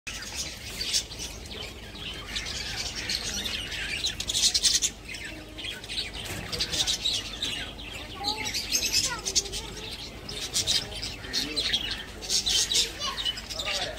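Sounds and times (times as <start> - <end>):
birds chirping and chattering: 0.1 - 13.9.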